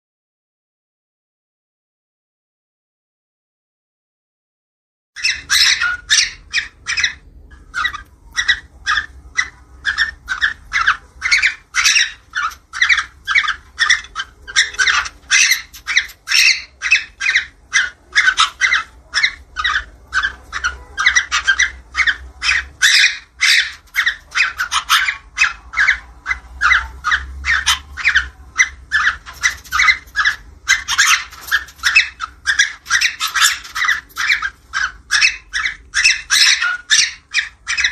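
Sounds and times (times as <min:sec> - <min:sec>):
cockatiels chirping squawks: 0:05.2 - 0:37.9.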